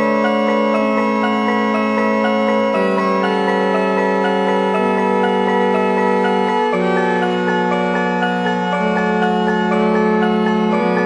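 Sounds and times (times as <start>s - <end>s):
melody of short notes: 0.0s - 11.0s.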